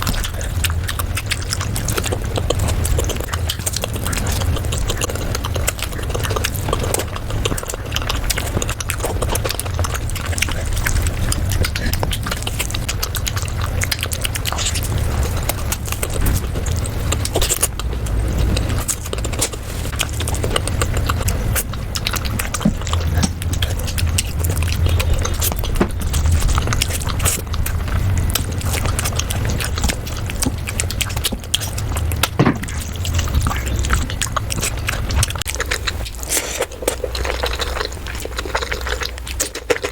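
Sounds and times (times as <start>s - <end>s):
steady low hum: 0.0s - 39.9s
wet chewing and mouth smacks: 0.0s - 39.9s.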